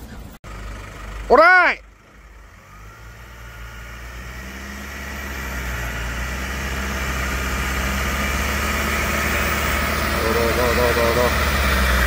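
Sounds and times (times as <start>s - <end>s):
car engine running under load: 0.0s - 12.0s.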